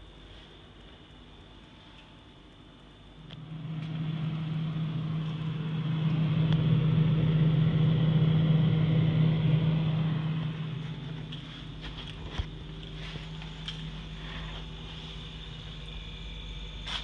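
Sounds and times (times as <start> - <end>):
refrigerator humming: 0.0 - 17.0.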